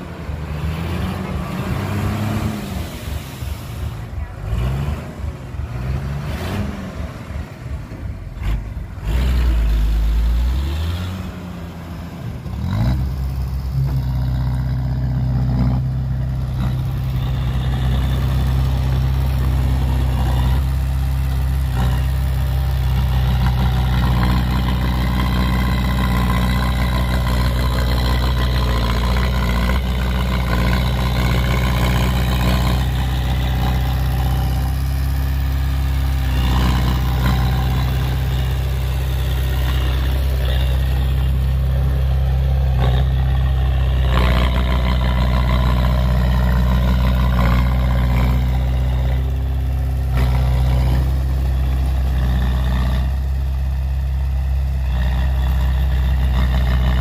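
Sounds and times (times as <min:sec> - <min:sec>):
bulldozer diesel engine running: 0:00.0 - 0:57.0
dump truck engine surging: 0:00.0 - 0:57.0.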